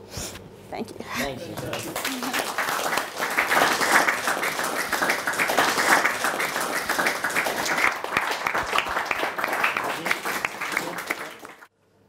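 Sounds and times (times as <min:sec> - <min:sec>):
crowd applauding: 0:01.5 - 0:11.7.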